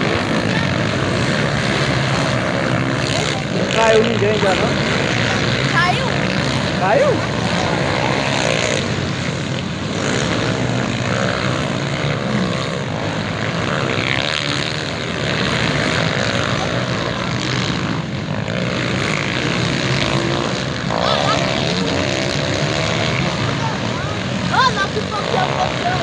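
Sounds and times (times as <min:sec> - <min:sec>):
motocross motorcycles revving: 0:00.0 - 0:26.0.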